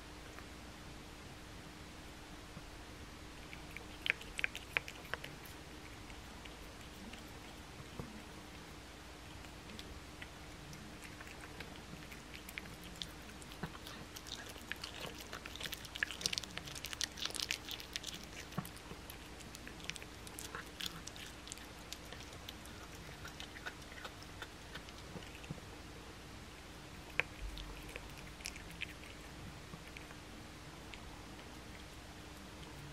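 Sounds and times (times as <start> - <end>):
cat chewing wetly: 3.4 - 32.9.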